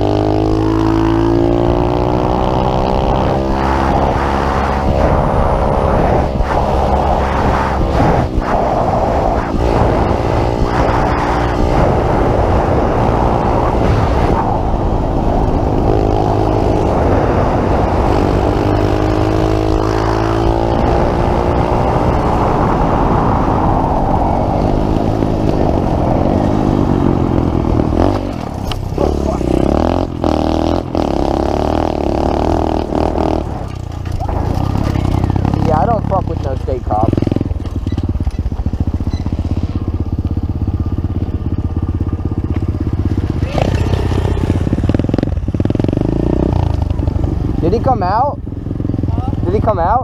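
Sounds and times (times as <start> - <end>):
motorbike engine revving: 0.0 - 49.9.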